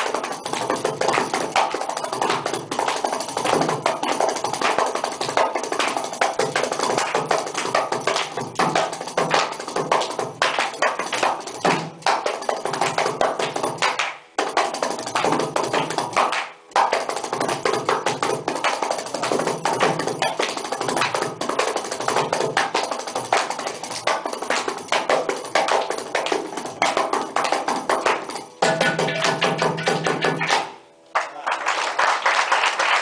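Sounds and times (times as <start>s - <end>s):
frame drum with jingles: 0.0s - 30.8s.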